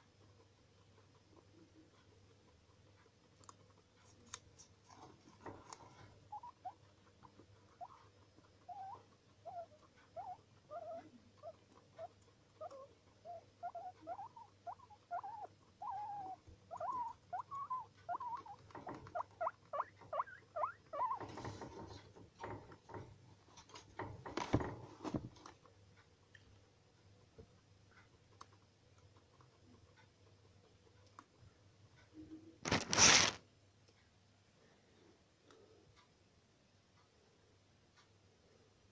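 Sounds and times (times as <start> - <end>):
guinea pig squeaking: 0.0 - 33.4.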